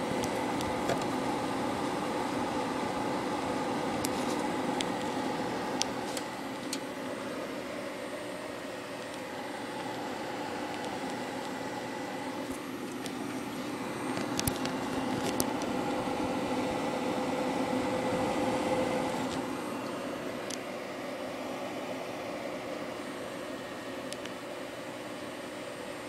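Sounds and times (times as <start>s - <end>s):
computer cooling fans whirring: 0.0s - 26.0s.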